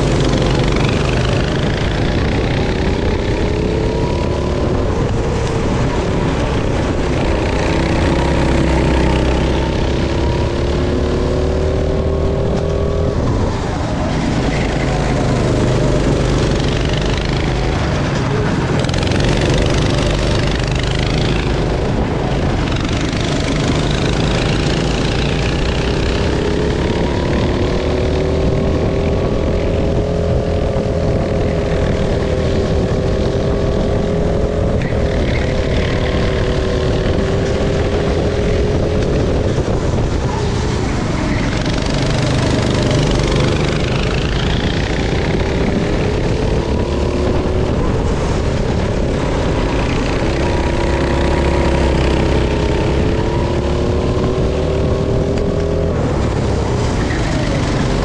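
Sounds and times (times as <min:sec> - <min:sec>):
go-kart engine rumbling: 0:00.0 - 0:58.0.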